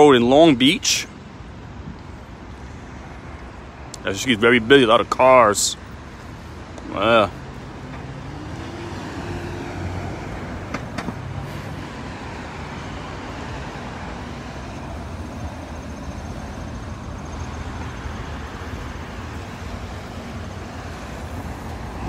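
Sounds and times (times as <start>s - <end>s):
cars driving past: 1.4s - 22.0s.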